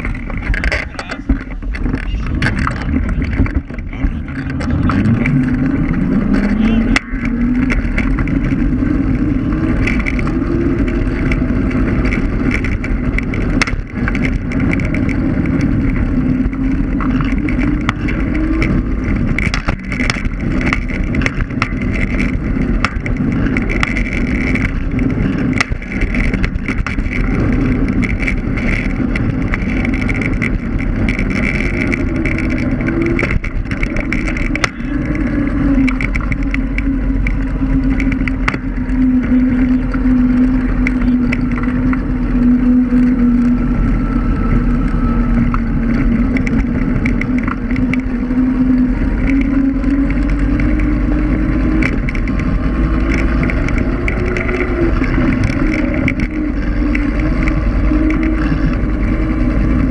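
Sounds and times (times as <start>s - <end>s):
knocks and rattles over bumps: 0.0s - 59.9s
wheels rumbling on asphalt: 0.0s - 59.9s.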